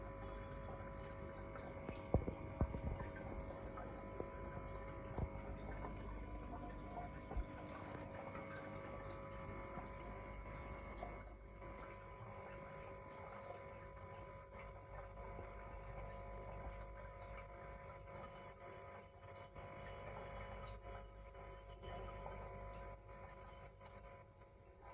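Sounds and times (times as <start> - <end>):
aquarium filter pump humming: 0.0 - 24.9
moving water: 0.0 - 24.9.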